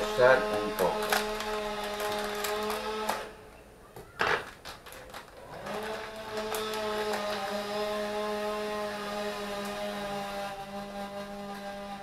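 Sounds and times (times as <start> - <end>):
motor-like hum: 0.0 - 3.7, 5.4 - 12.0.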